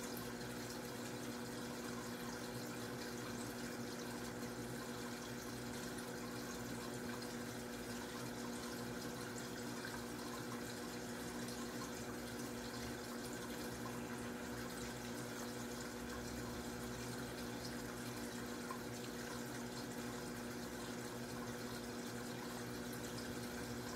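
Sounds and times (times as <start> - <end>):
trickle of water: 0.0 - 23.9.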